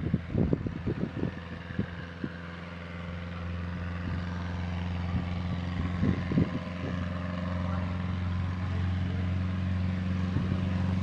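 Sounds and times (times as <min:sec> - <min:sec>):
light plane engine and propeller: 0:00.0 - 0:11.0.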